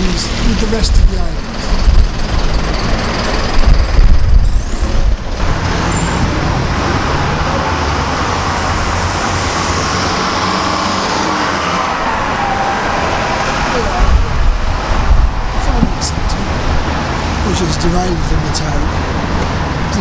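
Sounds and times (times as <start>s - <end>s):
heavy low rumble: 0.0s - 10.3s, 13.0s - 20.0s
road traffic passing: 0.0s - 20.0s.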